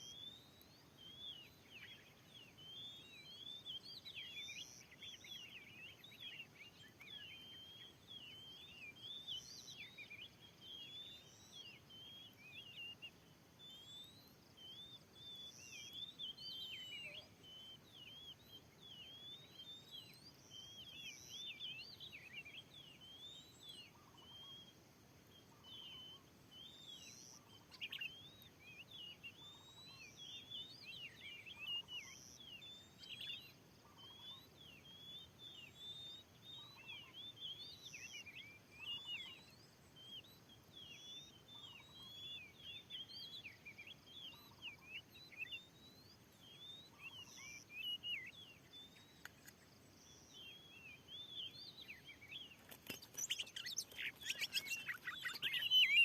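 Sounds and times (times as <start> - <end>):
faint bird whistling song: 0.0 - 56.0.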